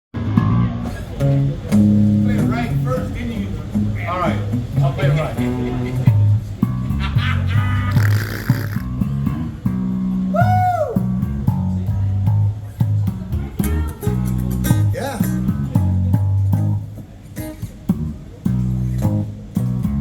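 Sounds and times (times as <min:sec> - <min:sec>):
bass guitar line: 0:00.1 - 0:20.0
electric guitar: 0:00.2 - 0:20.0.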